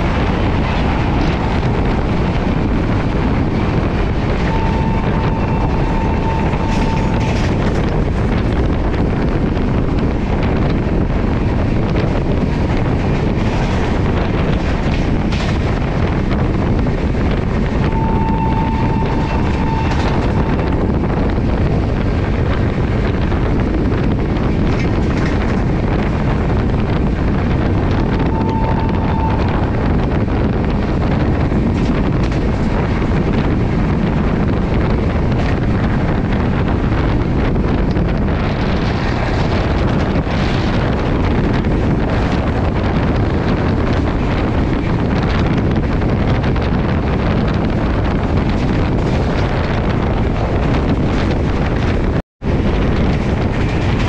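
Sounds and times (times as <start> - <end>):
train coach rumble: 0.0 - 54.0
wind buffeting microphone: 0.0 - 54.0.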